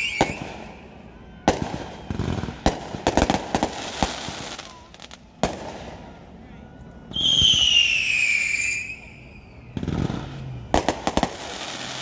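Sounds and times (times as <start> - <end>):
firework crackle: 0.0 - 6.2, 7.1 - 12.0
whistling rocket: 0.0 - 6.2, 7.0 - 12.0.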